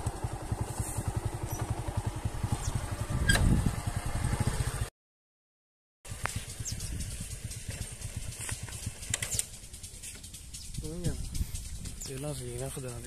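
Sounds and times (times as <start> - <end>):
small engine running: 0.0 - 4.9, 6.1 - 13.0.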